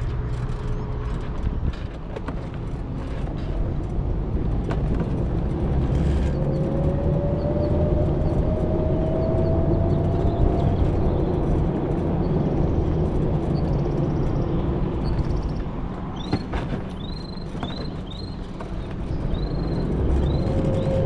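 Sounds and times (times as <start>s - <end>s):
wind and tyres rumbling: 0.0s - 21.0s.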